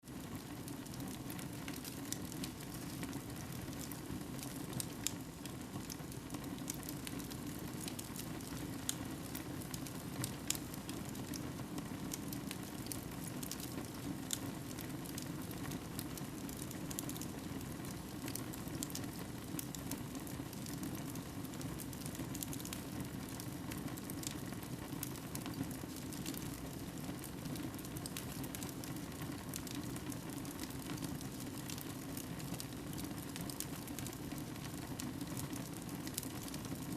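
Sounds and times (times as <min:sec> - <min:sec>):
fire crackling and popping: 0:00.1 - 0:36.9.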